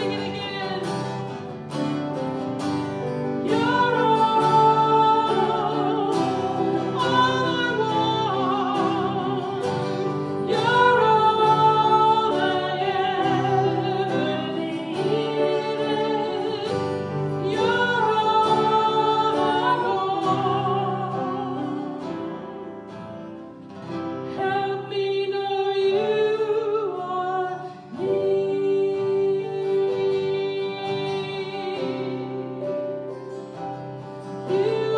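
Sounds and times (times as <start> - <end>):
person singing worship song: 0.0 - 22.8, 24.2 - 34.9
acoustic guitar: 0.0 - 34.9.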